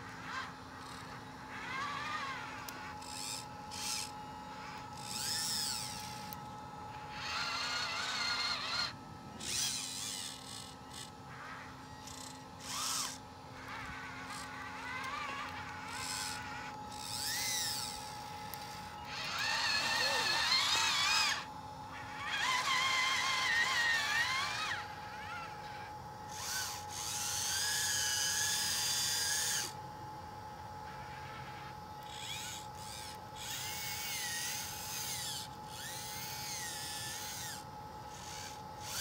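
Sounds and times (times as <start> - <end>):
electric motors whining: 0.0 - 39.0.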